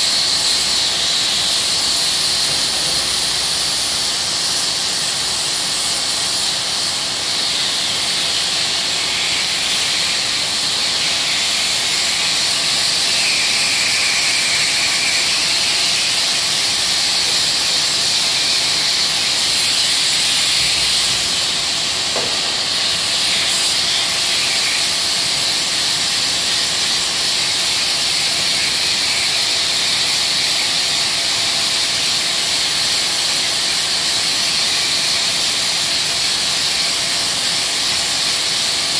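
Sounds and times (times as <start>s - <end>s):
sander hissing on filler: 0.0s - 38.9s.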